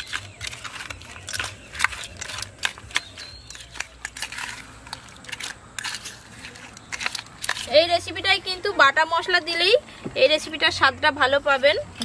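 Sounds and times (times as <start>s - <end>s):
spoon scraping steel box: 0.0s - 9.8s.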